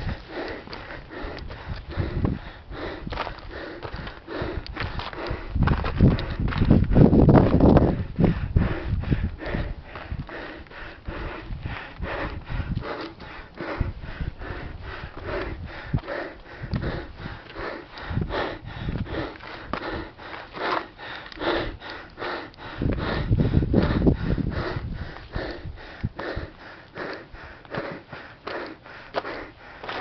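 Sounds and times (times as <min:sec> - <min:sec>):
person heavy breathing: 0:00.0 - 0:30.0.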